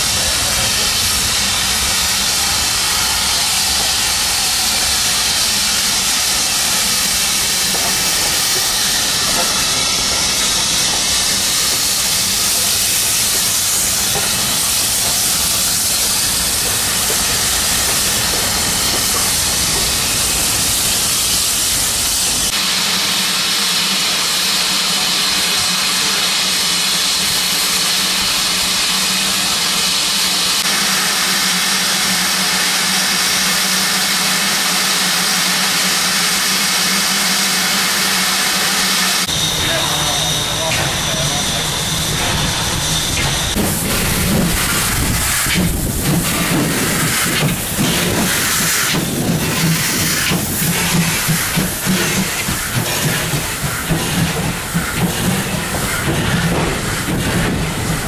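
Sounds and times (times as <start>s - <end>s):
steam locomotive venting steam: 0.0s - 58.0s.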